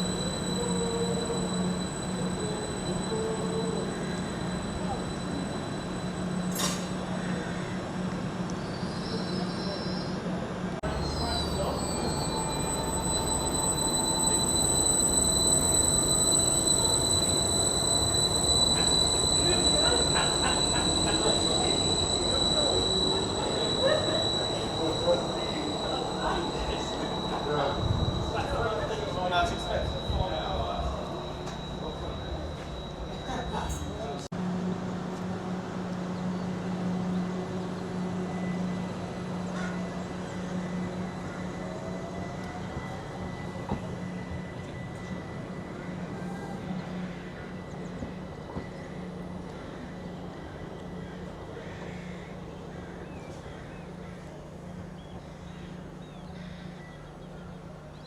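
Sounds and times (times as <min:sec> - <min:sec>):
train wheels rumbling: 0:00.0 - 0:56.0
train wheel squeal: 0:00.0 - 0:58.0.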